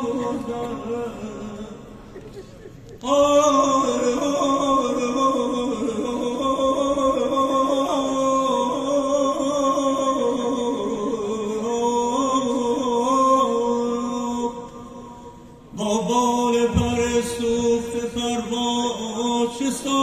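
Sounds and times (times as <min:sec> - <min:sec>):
man singing over loudspeaker: 0:00.0 - 0:02.3, 0:03.0 - 0:20.0.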